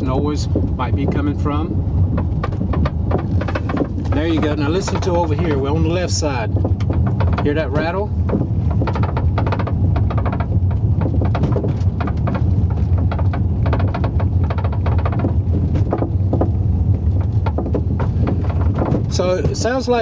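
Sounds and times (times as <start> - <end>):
rattling and knocking door panels: 0.0 - 20.0
road rumble inside car cabin: 0.0 - 20.0.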